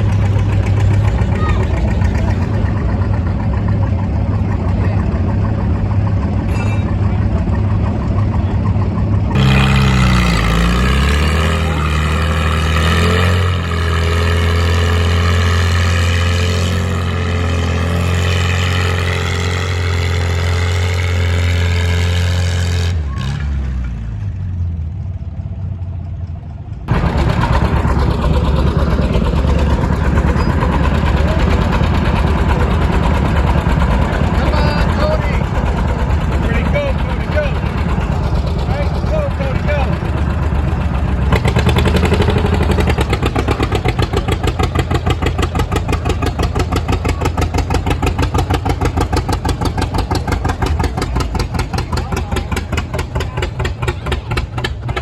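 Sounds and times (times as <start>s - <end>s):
tractor engine revving: 0.0s - 55.0s.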